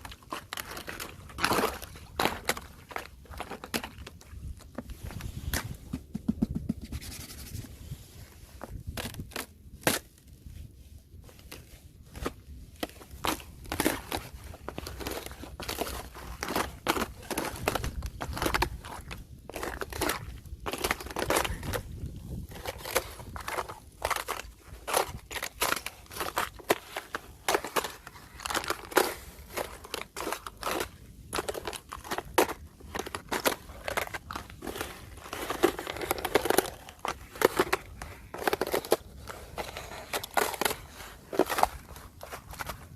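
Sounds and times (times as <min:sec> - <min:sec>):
thin ice cracking and crunching: 0:00.0 - 0:05.7, 0:08.7 - 0:10.4, 0:11.4 - 0:42.9.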